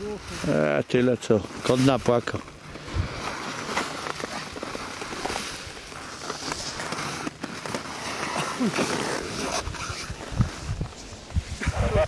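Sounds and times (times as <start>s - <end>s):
nylon fabric crinkling: 0.0s - 11.6s.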